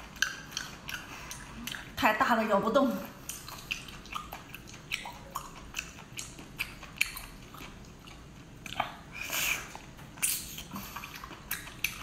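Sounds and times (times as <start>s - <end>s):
chewing mouth clicks and smacks: 0.0s - 2.0s, 3.2s - 12.0s.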